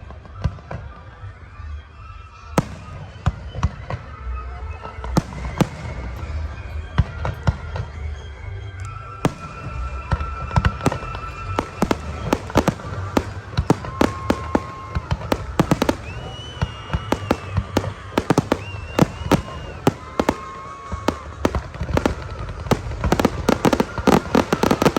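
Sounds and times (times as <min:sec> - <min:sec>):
fireworks bangs and cracks: 0:02.6 - 0:08.1, 0:09.1 - 0:24.9.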